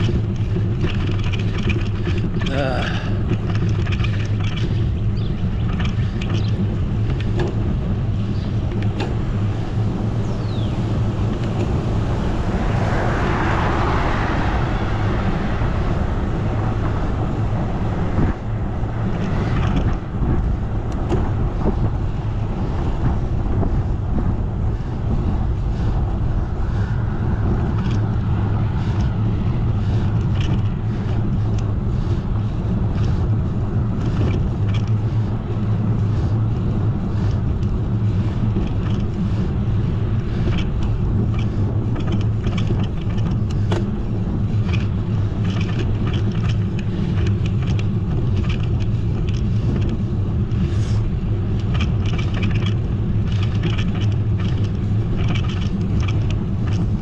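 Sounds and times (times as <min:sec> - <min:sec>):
bicycle road noise: 0:00.0 - 0:57.0
wind on microphone: 0:00.0 - 0:57.0.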